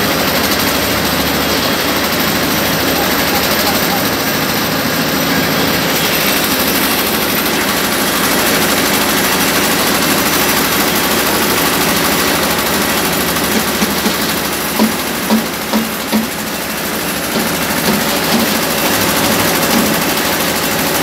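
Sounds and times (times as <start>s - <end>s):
concrete pump engine running: 0.0s - 21.0s.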